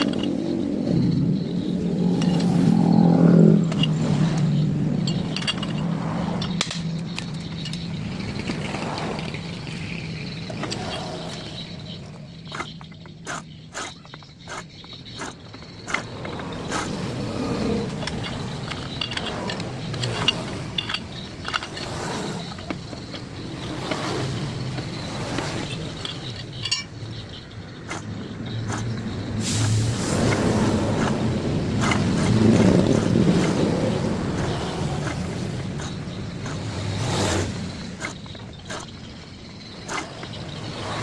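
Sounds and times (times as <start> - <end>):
metal tools clinking and scraping: 0.0 - 1.2, 1.9 - 29.7, 31.0 - 41.0
vehicle engine running: 0.0 - 40.8.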